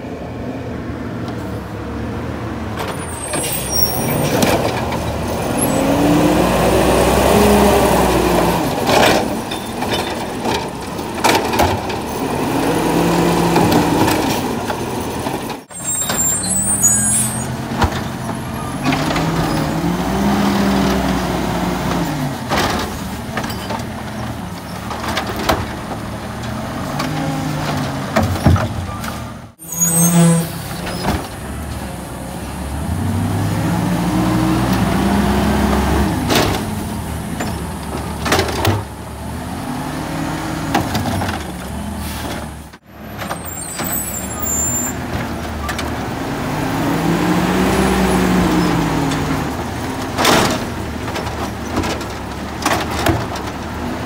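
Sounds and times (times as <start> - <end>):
garbage truck engine revving: 2.5 - 54.0
trash carts clanking on metal: 2.7 - 54.0.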